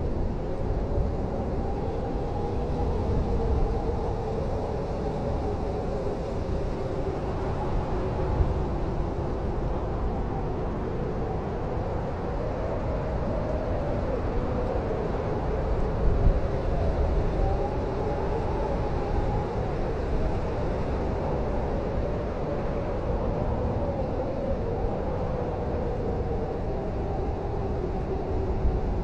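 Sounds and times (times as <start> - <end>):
blizzard wind whistling: 0.0 - 29.0.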